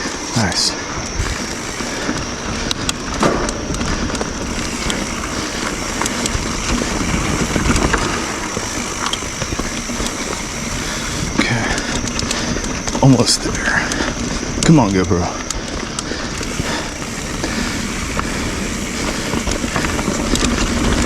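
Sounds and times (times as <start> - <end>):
bike clicks and rattles: 0.0 - 21.0
bike tyres rolling on trail: 0.0 - 21.0.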